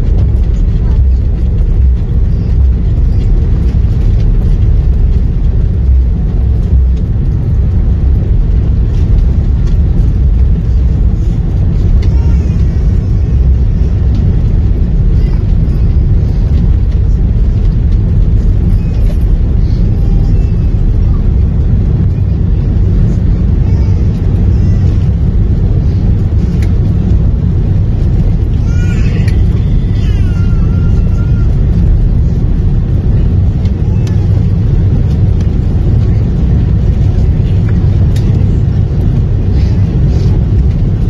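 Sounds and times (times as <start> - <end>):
airliner cabin engine rumble: 0.0 - 41.0.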